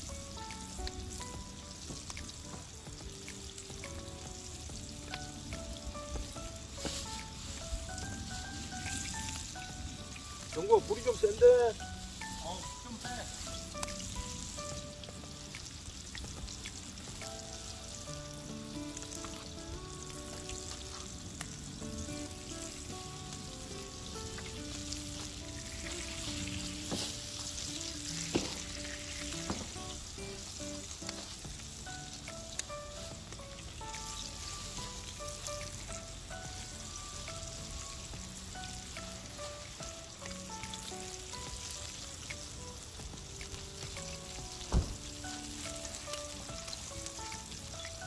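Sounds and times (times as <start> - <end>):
fish frying in oil: 0.0 - 48.0.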